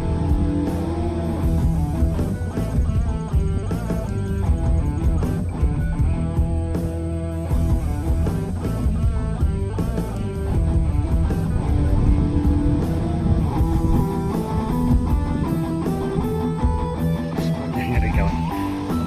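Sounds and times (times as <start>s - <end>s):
rock music with electric guitar: 0.0s - 19.0s.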